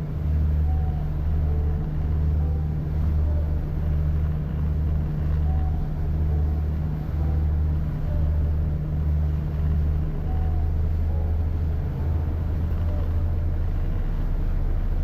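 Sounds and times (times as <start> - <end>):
engine running with low drone: 0.0 - 15.0.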